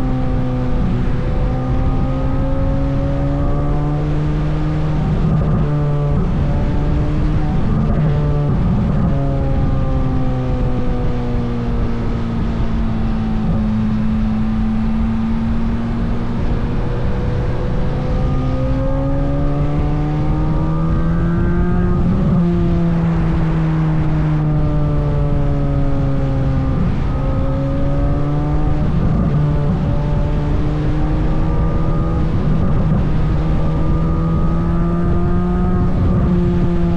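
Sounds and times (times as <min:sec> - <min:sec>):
car engine on trailing throttle: 0:00.0 - 0:36.9.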